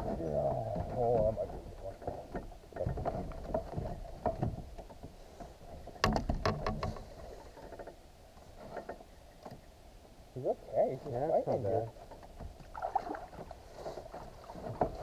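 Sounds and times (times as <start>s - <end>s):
knocks and rattles against boat: 0.0s - 9.7s, 11.0s - 15.0s.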